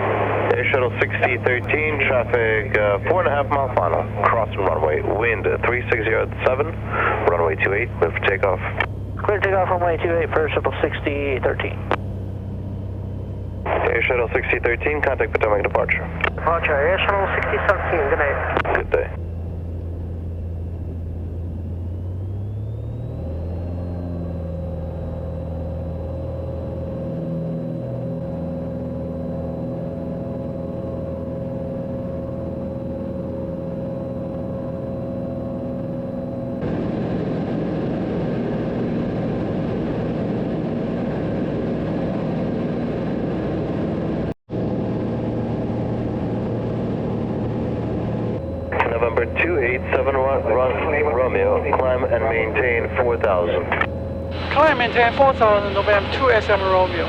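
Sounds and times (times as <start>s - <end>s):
propeller plane engine from cockpit: 0.0s - 57.0s.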